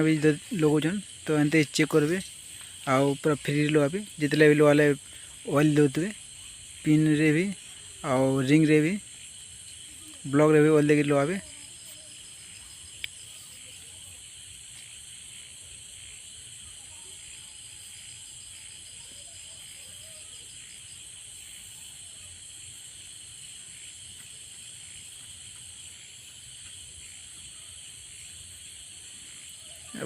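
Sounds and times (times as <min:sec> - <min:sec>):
high-pitched hiss: 0:00.0 - 0:30.0
insects trilling: 0:00.0 - 0:30.0.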